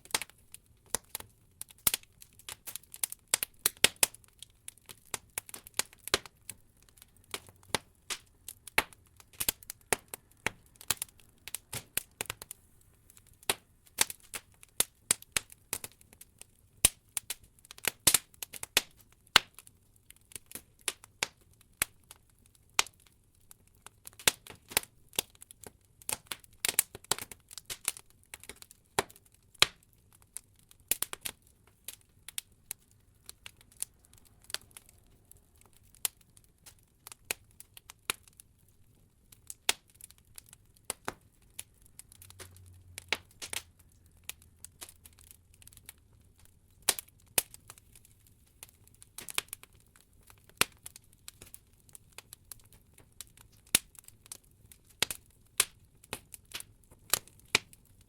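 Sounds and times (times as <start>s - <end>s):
wood logs crackling in fireplace: 0.0s - 58.0s.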